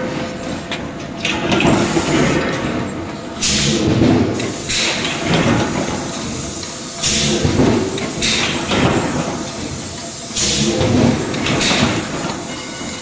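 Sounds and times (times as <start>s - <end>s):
machinery clattering rumble: 1.0s - 12.6s
hissing air bursts: 1.2s - 13.0s.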